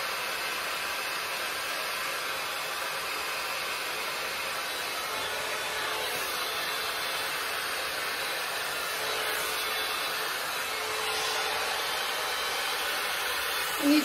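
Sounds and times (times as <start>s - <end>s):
hot air brush blowing air: 0.0s - 14.0s.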